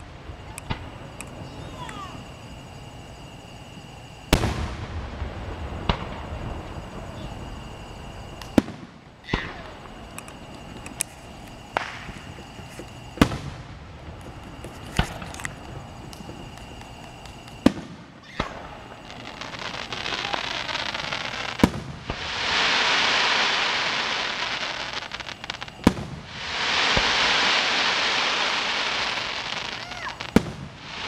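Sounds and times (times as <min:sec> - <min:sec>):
fireworks booming: 0:00.0 - 0:31.0
fireworks crackling: 0:00.0 - 0:31.0.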